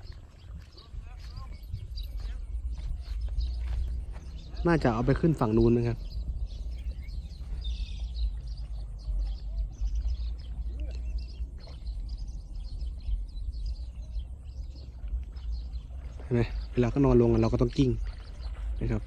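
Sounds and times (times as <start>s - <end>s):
small birds chirping: 0.0s - 19.0s
wind rumbling on microphone: 0.0s - 19.0s.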